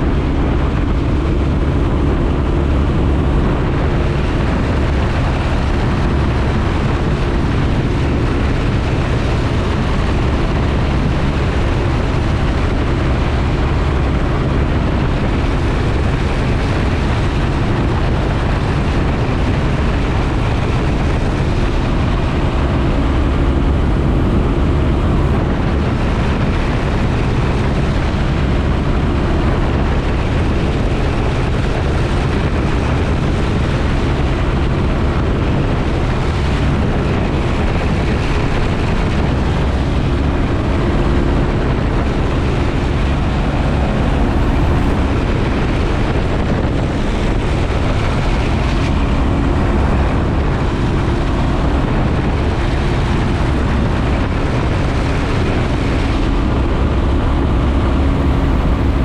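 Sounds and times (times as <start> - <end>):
airplane engine and propeller droning: 0.0 - 59.0
rush of wind noise: 0.0 - 59.0.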